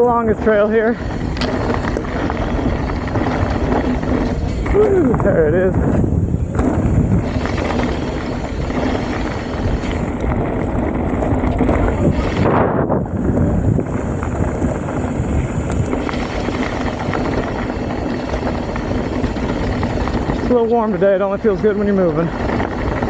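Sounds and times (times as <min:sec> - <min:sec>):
bike rattling over bumps: 0:00.0 - 0:23.0
bike tyres rolling on dirt: 0:00.0 - 0:23.0
wind rushing over microphone: 0:00.0 - 0:23.0.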